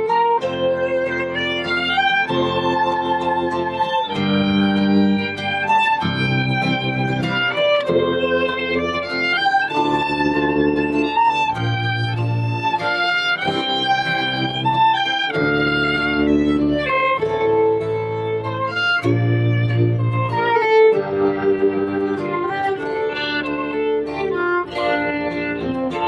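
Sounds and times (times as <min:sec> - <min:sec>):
fiddle playing: 0:00.0 - 0:26.0
guitar accompaniment: 0:00.0 - 0:26.0.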